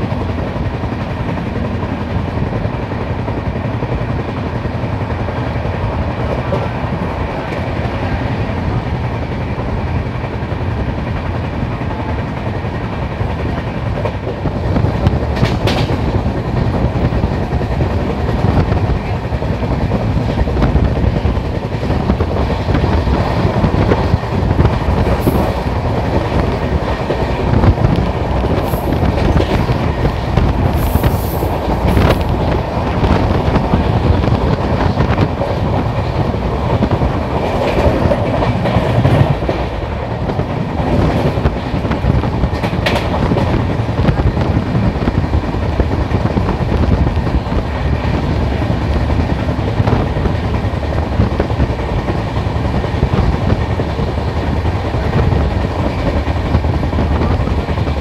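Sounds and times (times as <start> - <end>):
train wheels rumbling on rails: 0.0 - 58.0
wheels clicking on track: 0.0 - 58.0
wind rush: 0.0 - 58.0.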